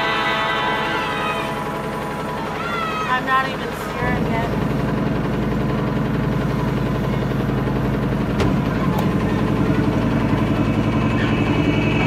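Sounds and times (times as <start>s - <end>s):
motor boat engine running: 0.0s - 12.0s.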